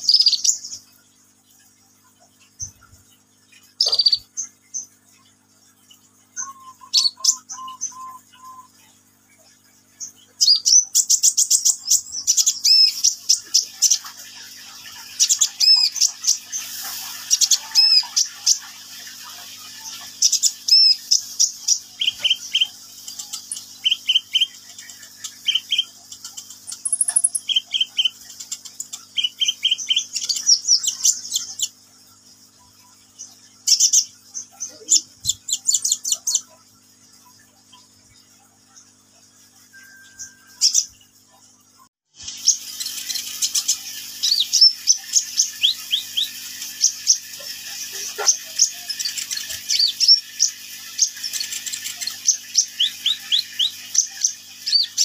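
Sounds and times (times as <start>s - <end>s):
bird chirps and trills: 0.0s - 55.0s.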